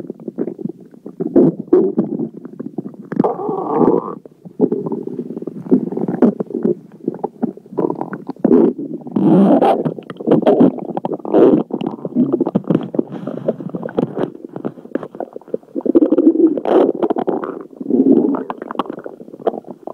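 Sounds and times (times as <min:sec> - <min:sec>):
stomach gurgling and rumbling: 0:00.0 - 0:19.9.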